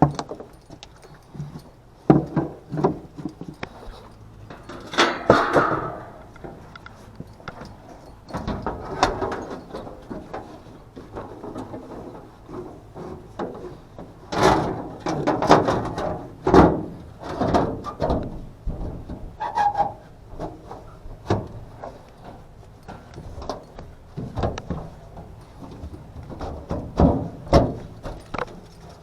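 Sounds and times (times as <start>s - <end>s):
tools and parts clattering: 0.0s - 18.2s, 20.5s - 29.0s.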